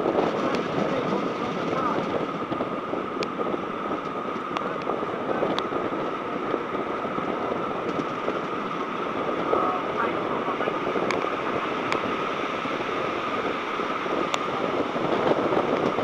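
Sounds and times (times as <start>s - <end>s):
wheel-on-rail noise: 0.0s - 16.0s
wind rushing: 0.0s - 16.0s.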